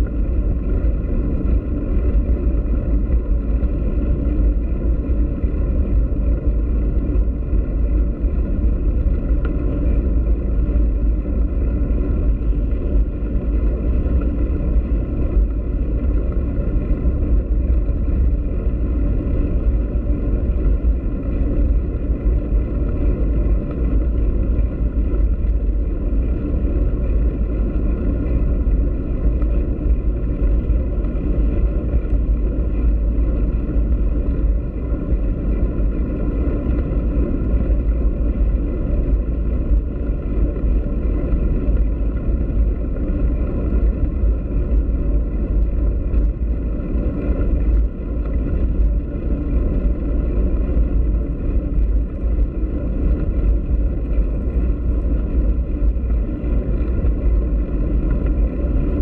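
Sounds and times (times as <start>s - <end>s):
bicycle tyres on block paving: 0.0s - 59.0s.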